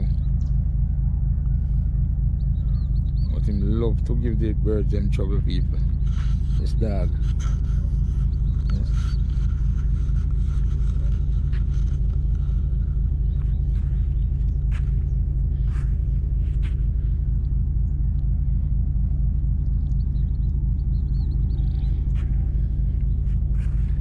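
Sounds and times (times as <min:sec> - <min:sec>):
faint bird chirps: 0:00.0 - 0:24.0
wind rumbling on microphone: 0:00.0 - 0:24.0.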